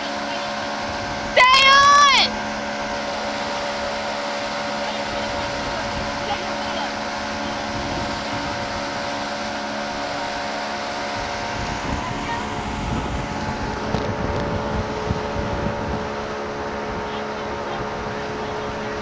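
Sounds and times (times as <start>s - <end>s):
motorboat engine running: 0.0s - 19.0s
water churning in wake: 0.0s - 19.0s
wind buffeting microphone: 0.0s - 19.0s.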